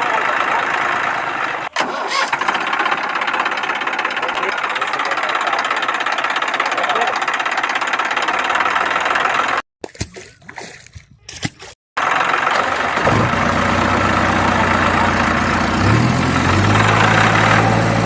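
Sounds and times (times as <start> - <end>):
vehicle engine idling: 0.0 - 9.6, 12.0 - 18.0.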